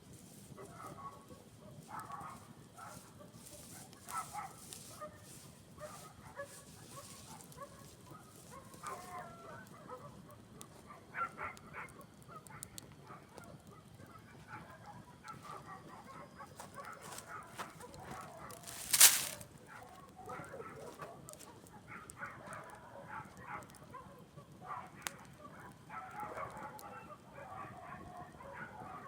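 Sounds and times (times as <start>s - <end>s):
fire crackling: 0.0s - 26.8s.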